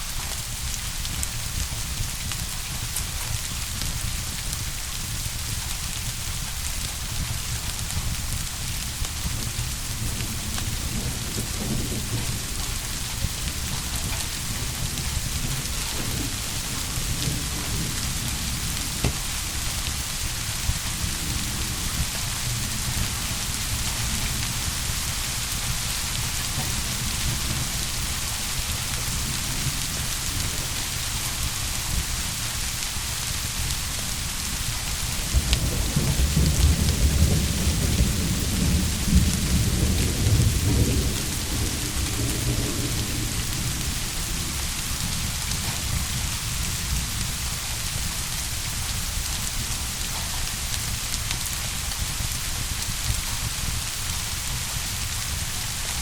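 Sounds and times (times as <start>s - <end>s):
heavy rain: 0.0s - 56.0s
thunder rumbling: 0.6s - 51.2s, 54.6s - 56.0s.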